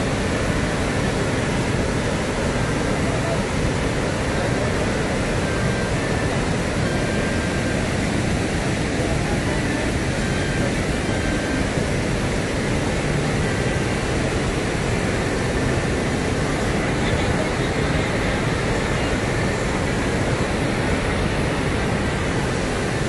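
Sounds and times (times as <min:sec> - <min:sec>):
river rushing over rocky falls: 0:00.0 - 0:23.0.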